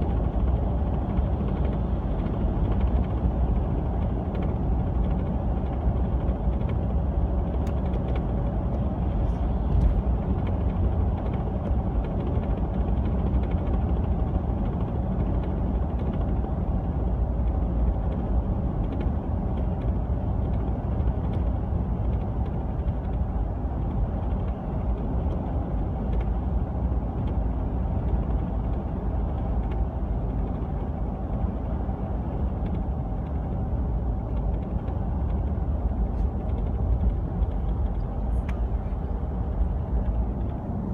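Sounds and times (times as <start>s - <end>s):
truck road and engine noise: 0.0s - 40.9s.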